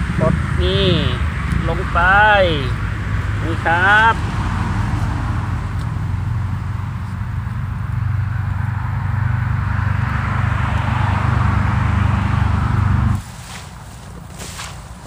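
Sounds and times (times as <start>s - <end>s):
road noise hiss: 0.0s - 15.0s
vehicle engine humming: 0.0s - 15.0s.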